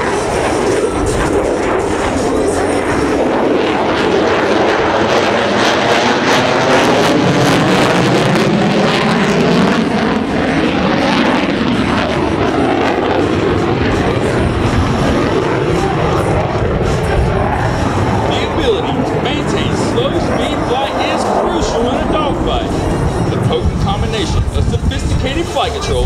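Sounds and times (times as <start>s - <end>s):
jet engine roaring: 0.0s - 26.0s.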